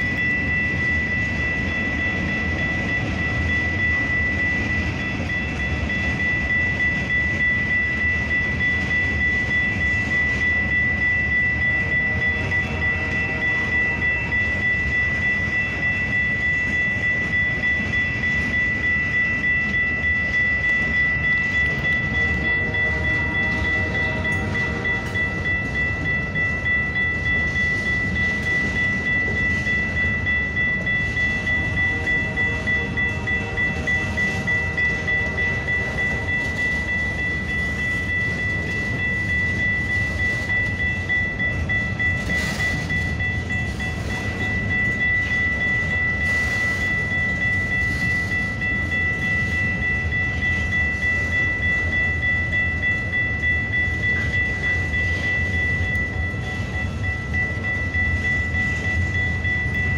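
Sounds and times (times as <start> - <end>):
crossing warning bell: 0.0 - 59.9
train wheels rumbling on rails: 0.0 - 59.9.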